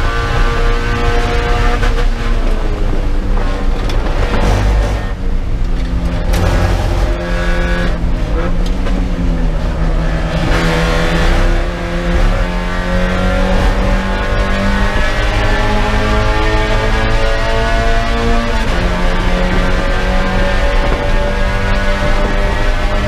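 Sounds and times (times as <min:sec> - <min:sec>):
race car engine: 0:00.0 - 0:23.0.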